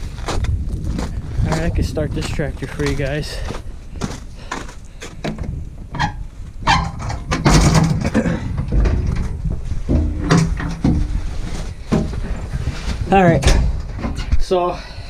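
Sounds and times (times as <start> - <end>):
microphone handling rumble: 0.0 - 4.3, 5.1 - 14.5
footsteps clunking on metal steps: 0.0 - 14.9.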